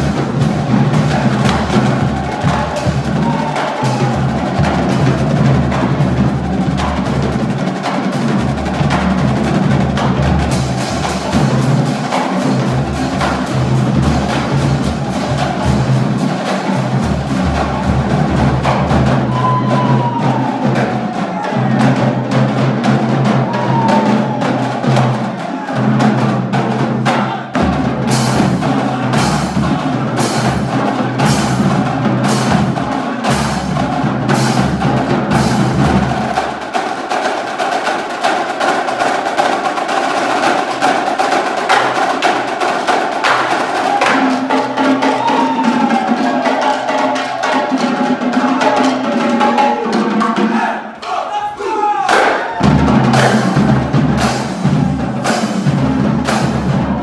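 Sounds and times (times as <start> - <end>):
accented drum hits: 0.0 - 51.2, 52.1 - 57.0
marching drumline cadence: 0.0 - 57.0.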